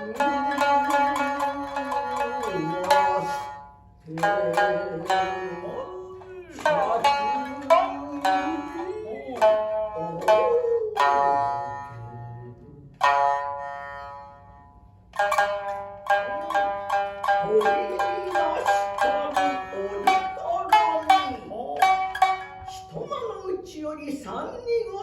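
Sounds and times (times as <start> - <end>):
person singing wavering note: 0.0 - 14.4, 16.2 - 23.4
shamisen plucked notes: 0.0 - 23.4.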